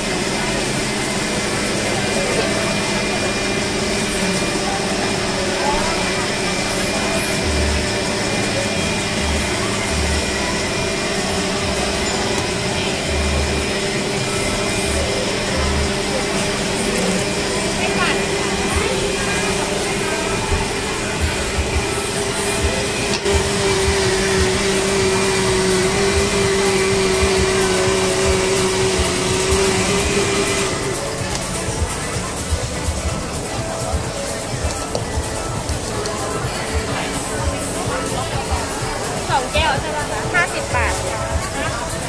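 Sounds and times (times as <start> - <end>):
blender running: 0.0 - 42.0
mechanical hum: 0.0 - 42.0.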